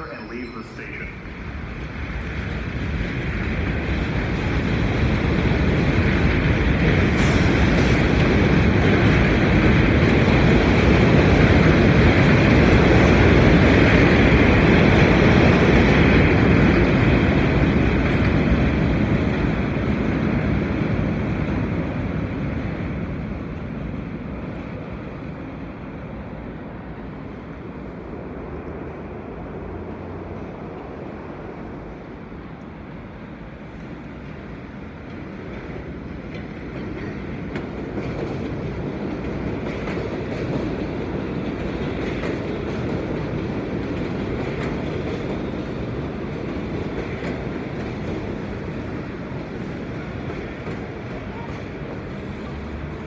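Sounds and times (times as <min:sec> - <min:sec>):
subway train rumbling on track: 0:00.0 - 0:53.0.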